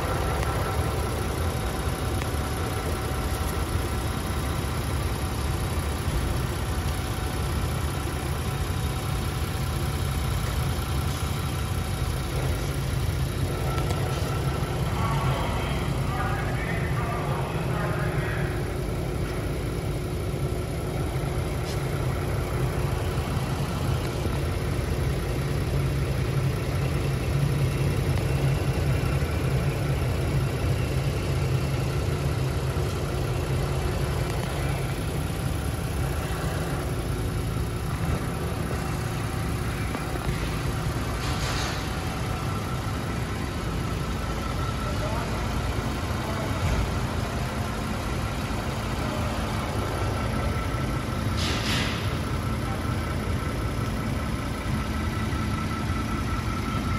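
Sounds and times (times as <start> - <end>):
van engine hum: 0.0 - 56.9.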